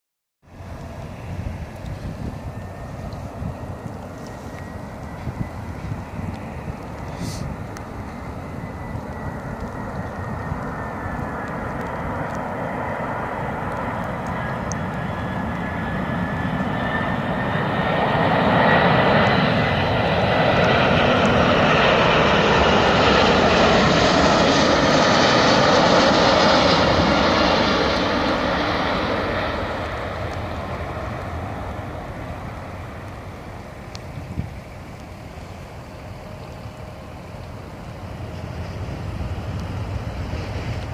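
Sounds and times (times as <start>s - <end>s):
jet airliner passing overhead: 0.4s - 40.9s.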